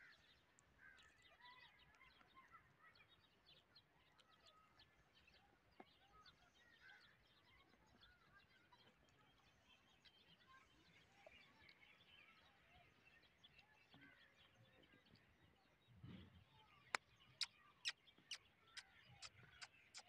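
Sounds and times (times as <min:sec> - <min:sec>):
small birds twittering: 0:00.0 - 0:20.0.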